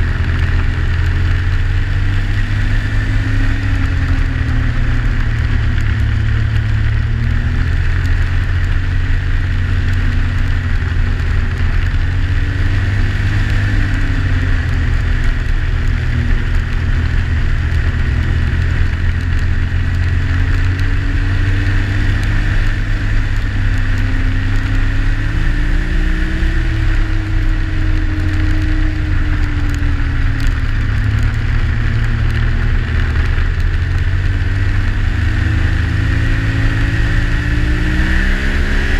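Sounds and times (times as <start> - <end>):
snowmobile engine running: 0.0 - 38.9
track and snow hiss: 0.0 - 38.9.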